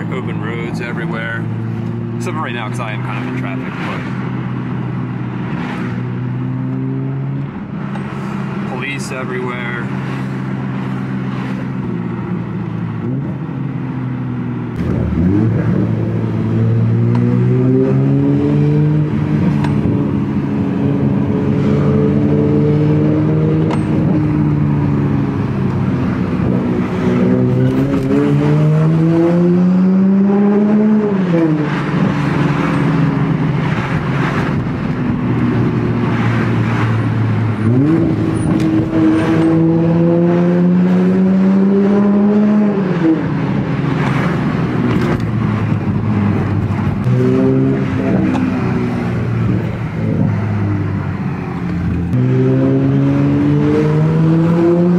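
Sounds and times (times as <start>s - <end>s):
car engine revving while driving: 0.0s - 54.9s.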